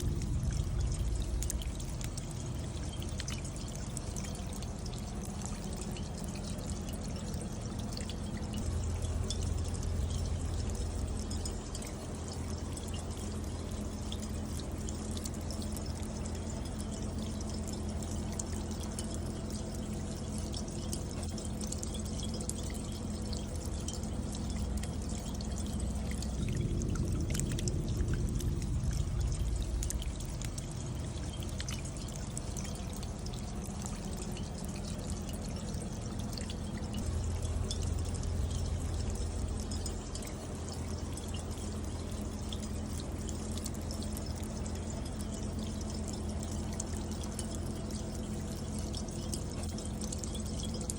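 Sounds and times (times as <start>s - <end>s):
drips ticking on metal cups: 0.0s - 50.9s
rainwater pouring down rain chain: 0.0s - 50.9s.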